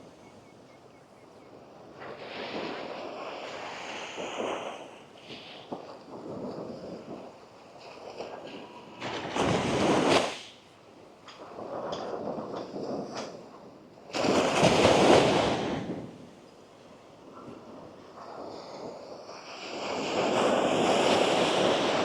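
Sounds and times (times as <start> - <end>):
waves breaking on sandy shore: 0.0 - 10.6, 11.4 - 22.0
soft surf wash: 0.0 - 22.0.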